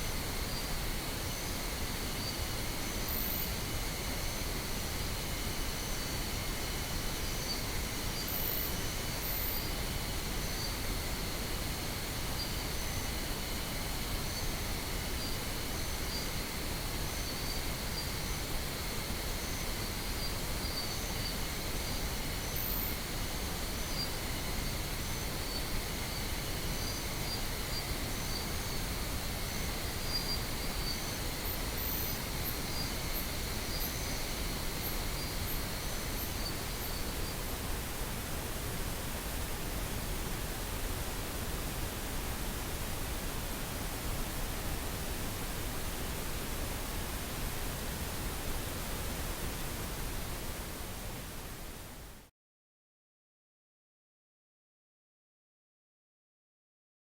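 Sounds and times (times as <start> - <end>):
pink noise hiss: 0.0 - 52.3.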